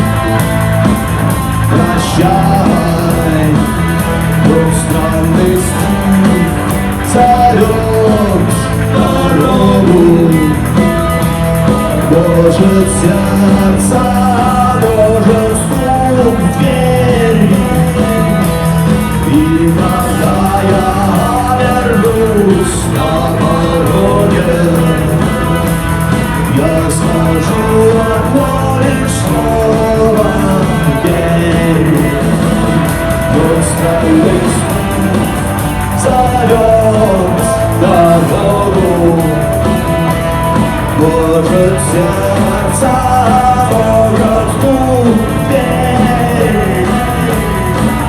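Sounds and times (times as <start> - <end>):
bending lead guitar line: 0.0 - 48.0
rock band playing live: 0.0 - 48.0.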